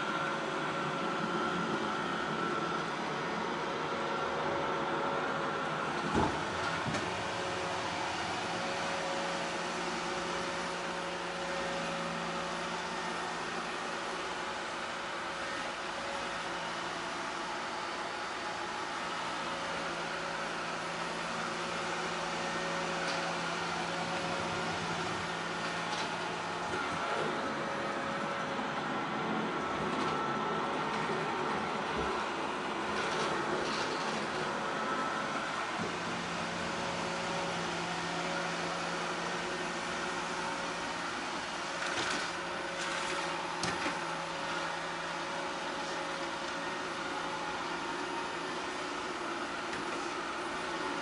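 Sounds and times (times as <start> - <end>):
robot vacuum humming: 0.0 - 51.0.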